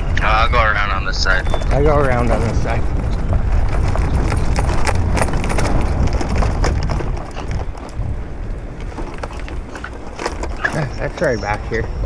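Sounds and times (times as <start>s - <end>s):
wind rumbling on microphone: 0.0s - 12.0s
bike clicks and rattles: 1.1s - 12.0s.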